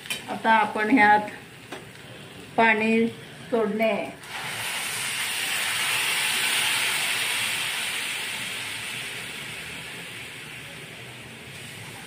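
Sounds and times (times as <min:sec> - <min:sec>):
water sizzling in hot oil: 0:00.0 - 0:12.0.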